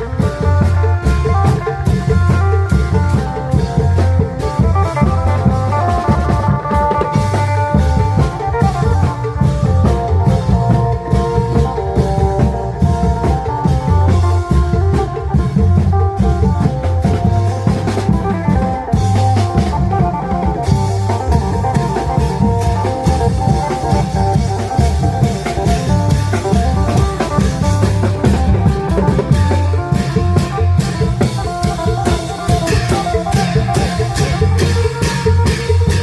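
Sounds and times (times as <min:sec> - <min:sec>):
long drums beating: 0:00.0 - 0:36.0.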